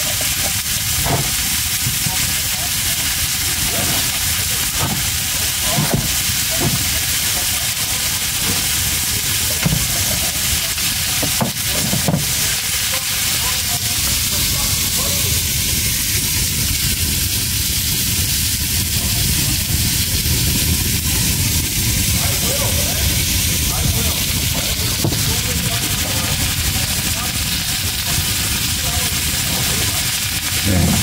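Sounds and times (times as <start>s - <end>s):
fish sizzling in a pan: 0.0s - 31.0s.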